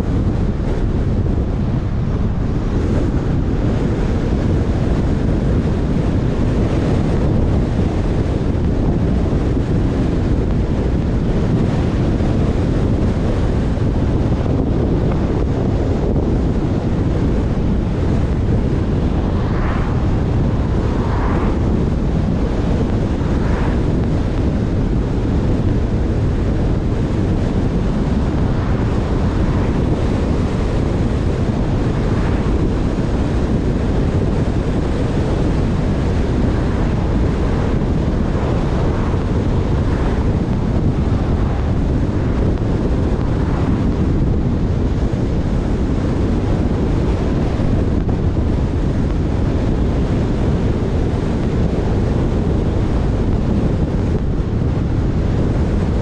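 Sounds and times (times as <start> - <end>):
car road and tyre noise: 0.0 - 56.0
wind buffeting microphone: 0.0 - 56.0.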